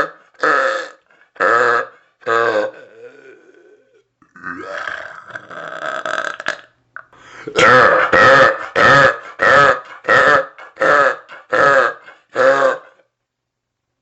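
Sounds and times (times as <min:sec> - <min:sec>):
person belching: 0:00.0 - 0:13.0.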